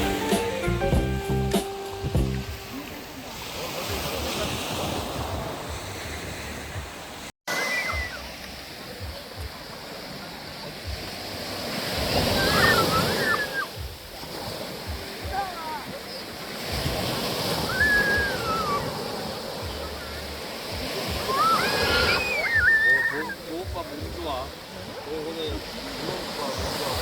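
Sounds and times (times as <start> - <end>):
ocean surf on a beach: 1.6 - 27.0.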